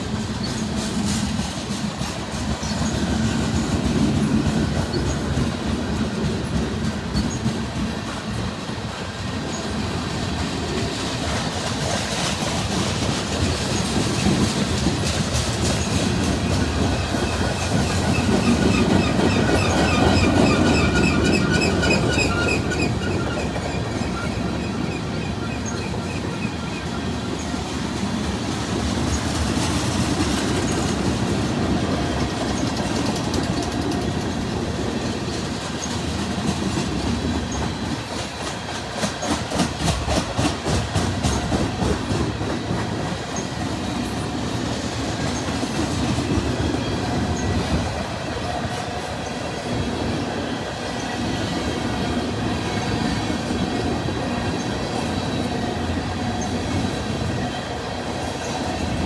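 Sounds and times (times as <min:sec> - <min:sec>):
train wheels clacking over rail joints: 0:00.0 - 0:59.0.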